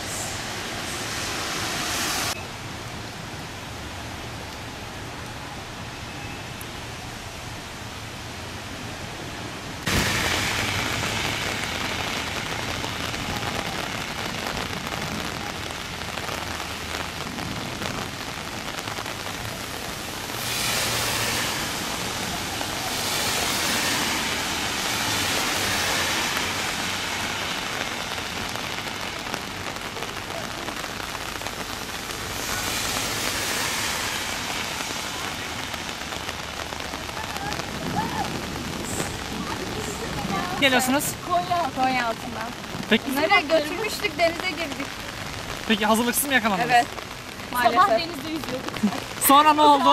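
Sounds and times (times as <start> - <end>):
heavy rain hissing: 0.0 - 49.9.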